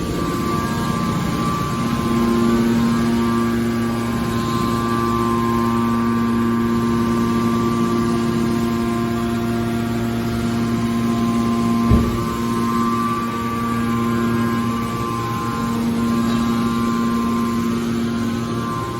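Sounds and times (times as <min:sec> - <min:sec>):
hydraulic pump motor humming: 0:00.0 - 0:18.9.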